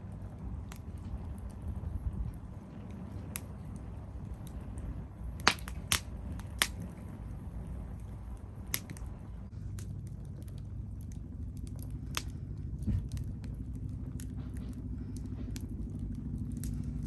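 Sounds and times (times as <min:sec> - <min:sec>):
firewood crackling: 0:00.0 - 0:17.0
steady low rumble: 0:00.0 - 0:17.0.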